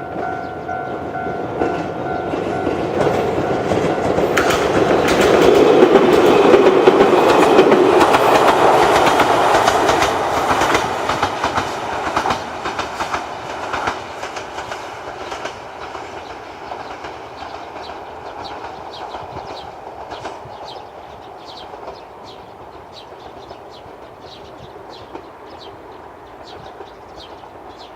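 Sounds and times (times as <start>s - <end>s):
electric train passing: 0.0s - 27.9s
wheels clicking over rail joints: 0.0s - 27.9s.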